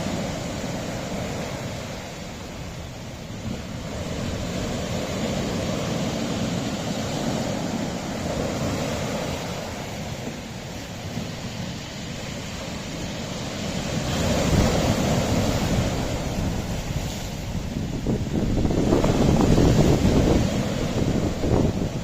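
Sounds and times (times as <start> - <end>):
sea waves surging on rocks: 0.0 - 22.0.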